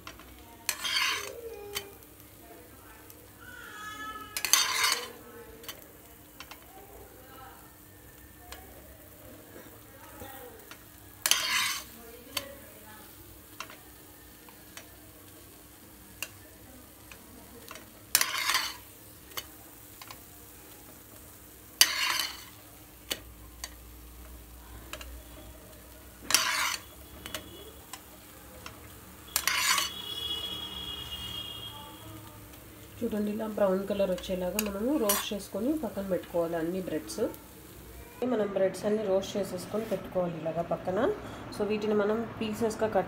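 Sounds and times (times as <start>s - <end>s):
bread sizzling in oil: 0.0s - 38.4s.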